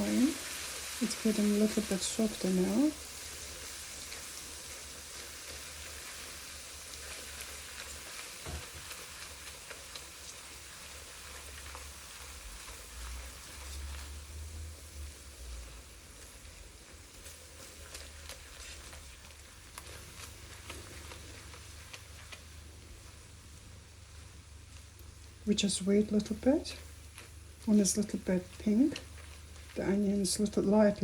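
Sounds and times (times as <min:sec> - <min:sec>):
onions sizzling in a wok: 0:00.0 - 0:31.0.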